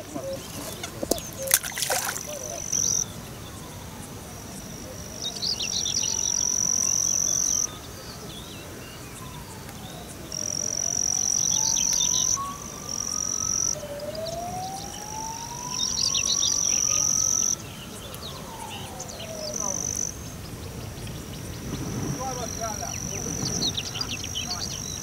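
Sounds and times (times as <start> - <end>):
faint siren wailing: 0.0 - 25.0.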